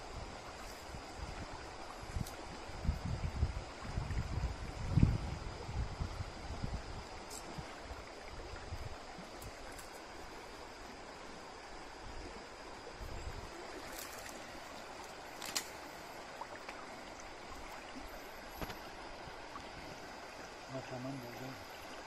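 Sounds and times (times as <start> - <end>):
stream flowing over gravel: 0.2 - 22.0.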